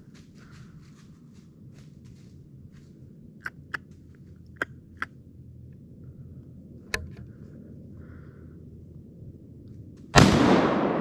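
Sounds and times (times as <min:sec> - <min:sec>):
low rumble of wind: 0:00.0 - 0:11.0.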